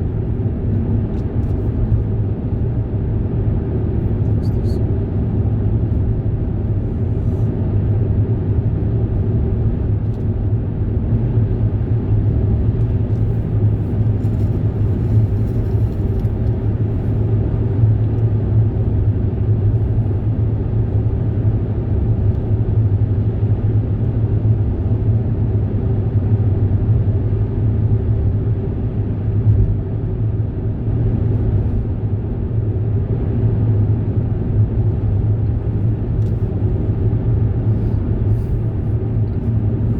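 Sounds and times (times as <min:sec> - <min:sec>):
moving vehicle rumble: 0:00.0 - 0:39.9.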